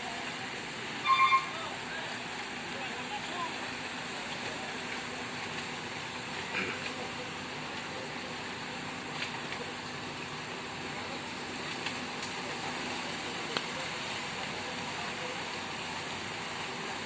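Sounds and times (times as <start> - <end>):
road repair rushing noise: 0.0 - 17.0.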